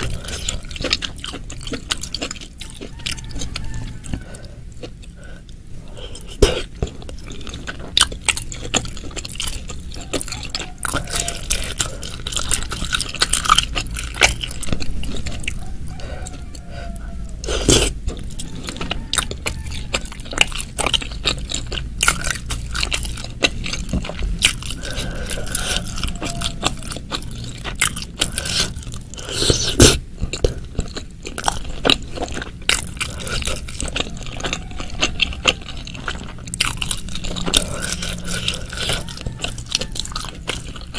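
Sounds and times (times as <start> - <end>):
close wet chewing: 0.0 - 40.9.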